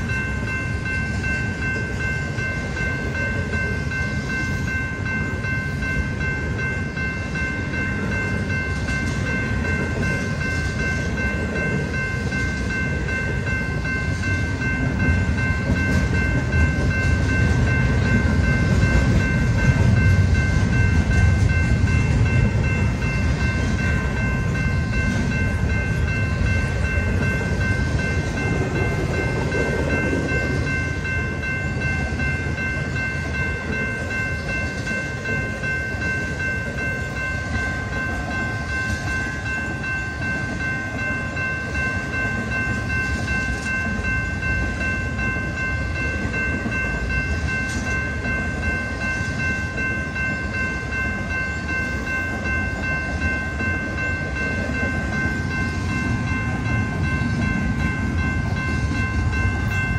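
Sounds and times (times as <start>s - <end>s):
steady high ringing tones: 0.0s - 59.9s
train wheels clattering on rails: 0.0s - 59.9s.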